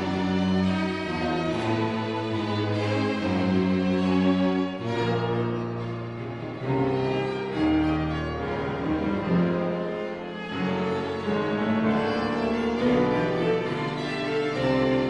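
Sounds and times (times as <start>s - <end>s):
bowed strings holding notes: 0.0s - 15.0s
piano: 0.0s - 15.0s.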